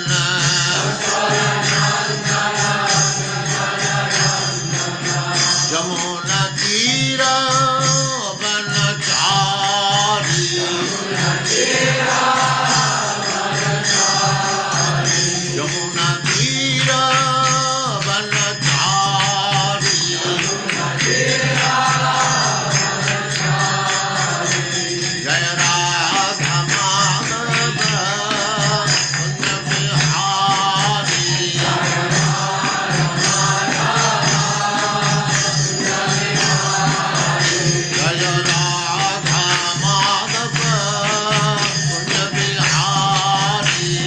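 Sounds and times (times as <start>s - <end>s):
devotional chant singing: 0.0s - 44.0s
instrumental music: 0.0s - 44.0s.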